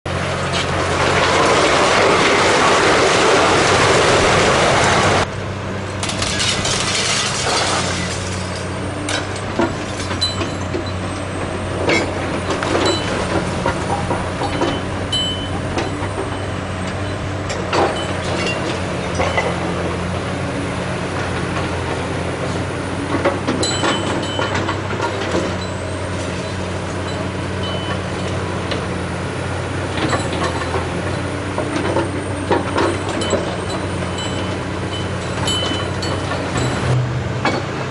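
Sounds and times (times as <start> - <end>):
excavator diesel engine running: 0.1 - 37.9.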